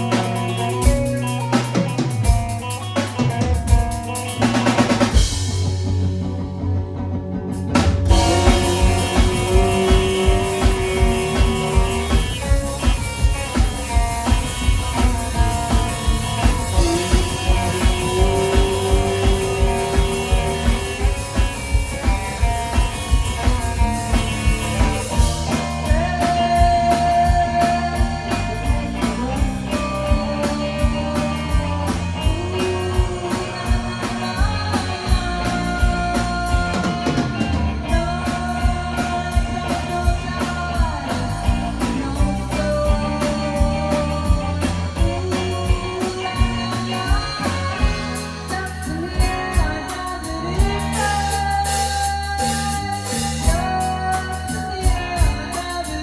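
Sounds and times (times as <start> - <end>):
bass guitar: 0.0 - 56.0
drum kit steady beat: 0.0 - 56.0
electric guitar lines: 0.0 - 56.0.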